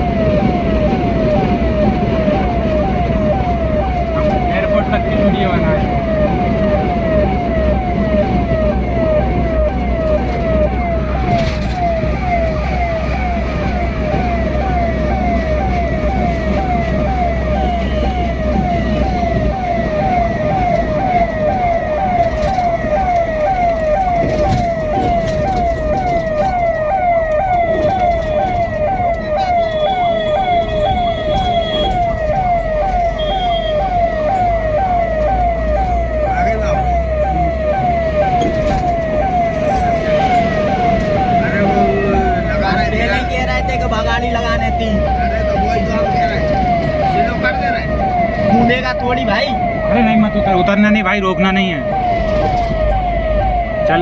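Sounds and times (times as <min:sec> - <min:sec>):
moving vehicle rumble: 0:00.0 - 0:54.0
siren yelping: 0:00.0 - 0:54.0.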